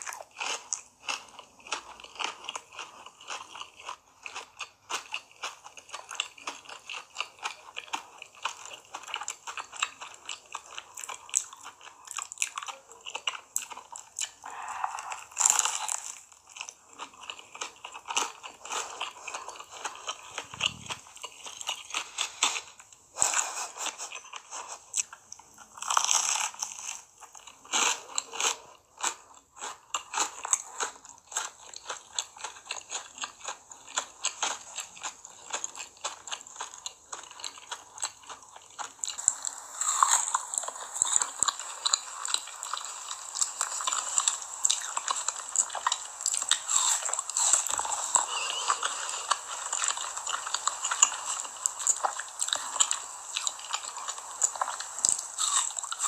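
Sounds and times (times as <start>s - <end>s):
pizza crust crunching: 0.0s - 56.0s
wet chewing: 0.0s - 56.0s.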